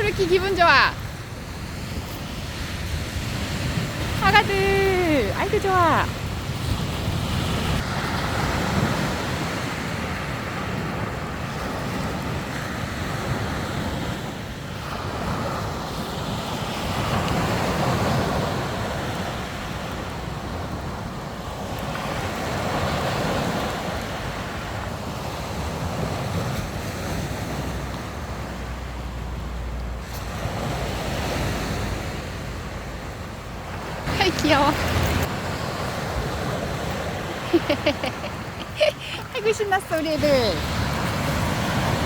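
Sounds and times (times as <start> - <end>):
waves breaking on a beach: 0.0 - 42.0
wind on microphone: 0.0 - 42.0.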